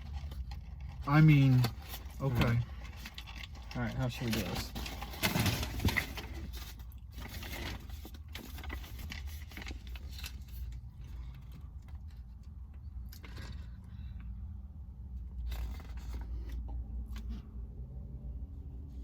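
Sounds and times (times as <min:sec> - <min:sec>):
fast-food packaging rustling: 0:00.0 - 0:13.9, 0:15.3 - 0:17.4
low steady hum: 0:00.0 - 0:19.0.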